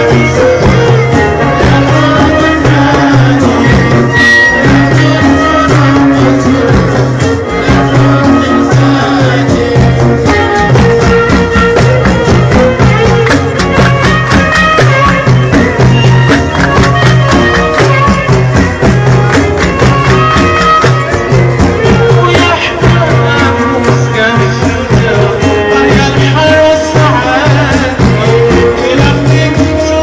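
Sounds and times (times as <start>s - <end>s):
violin melody: 0.0s - 9.4s, 10.2s - 29.0s
frame drums and tambourine: 0.0s - 30.0s.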